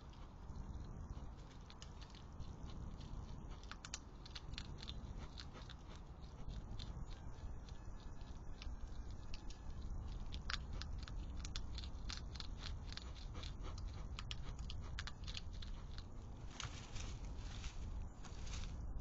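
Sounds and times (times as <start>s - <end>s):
hedgehogs crunching dry food: 0.0s - 19.0s
low background hum: 0.0s - 19.0s.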